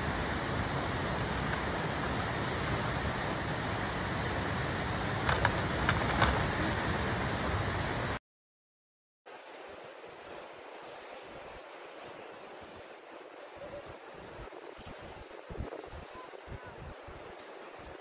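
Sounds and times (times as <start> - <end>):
river water rushing: 0.0 - 8.2, 9.3 - 18.0.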